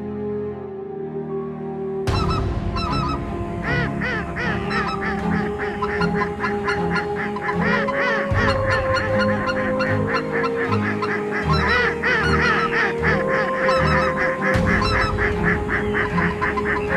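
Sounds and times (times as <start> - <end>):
soft music: 0.0 - 16.9
geese honking: 2.1 - 16.9.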